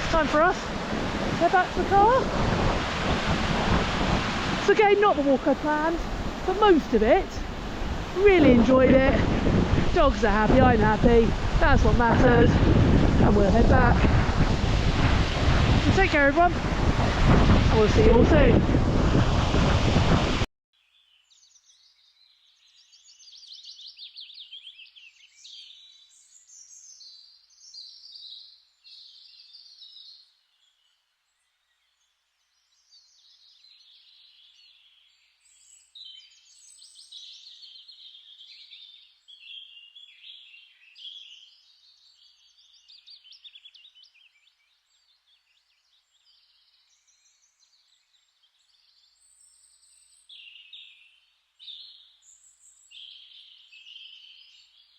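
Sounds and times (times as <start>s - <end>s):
songbirds twittering: 0.0s - 14.0s, 20.8s - 54.9s.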